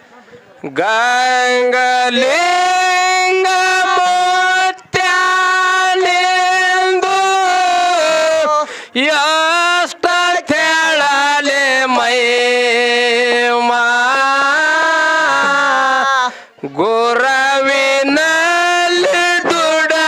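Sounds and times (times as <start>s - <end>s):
man singing into a microphone: 0.6s - 20.0s.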